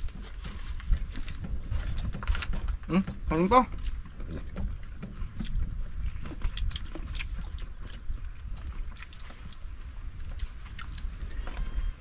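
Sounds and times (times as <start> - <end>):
chewing and smacking: 0.0 - 12.0.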